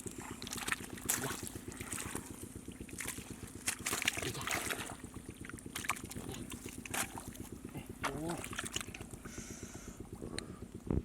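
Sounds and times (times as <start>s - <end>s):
water sloshing and splashing: 0.0s - 9.4s.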